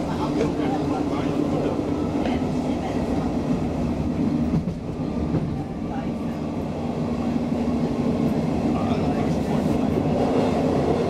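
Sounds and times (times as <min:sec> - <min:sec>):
wheels rumbling on track: 0:00.0 - 0:11.0.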